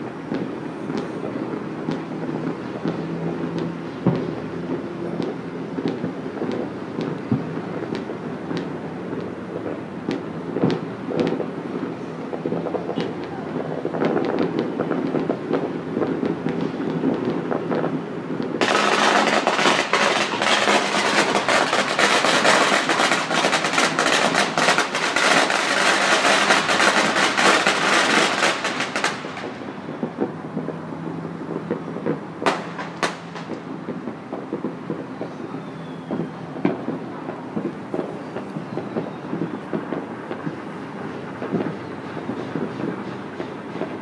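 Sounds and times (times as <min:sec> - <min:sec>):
distant firework bangs: 0:00.0 - 0:44.0
firecrackers crackling rapidly: 0:00.0 - 0:44.0.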